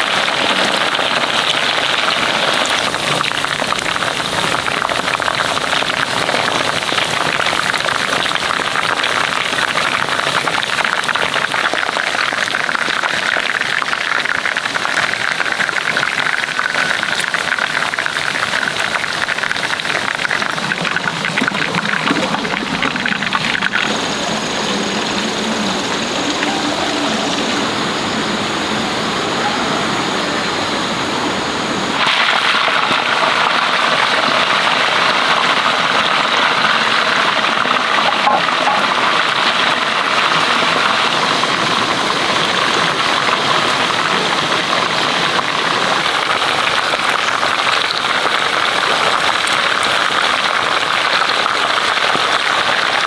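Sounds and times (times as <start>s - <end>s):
dense crackling hiss: 0.0s - 53.0s.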